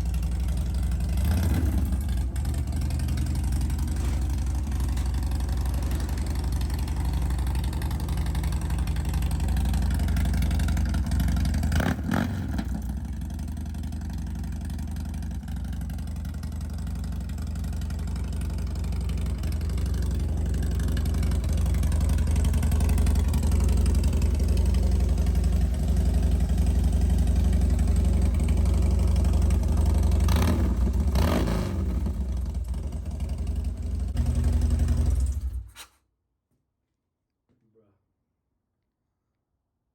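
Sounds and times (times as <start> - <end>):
motorcycle engine idling: 0.0 - 35.7.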